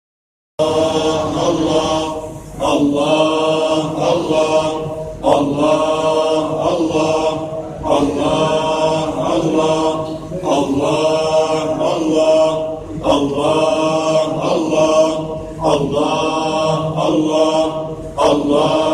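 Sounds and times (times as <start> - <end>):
voices chanting in unison: 0.6 - 18.9.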